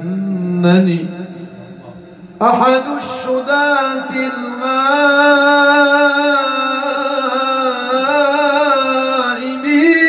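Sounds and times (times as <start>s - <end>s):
man singing ornamented vowel: 0.0s - 1.0s, 2.4s - 10.0s.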